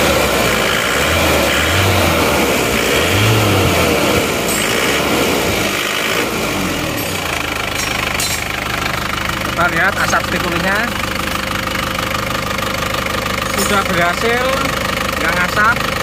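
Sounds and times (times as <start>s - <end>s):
diesel engine revving and idling: 0.0s - 16.0s.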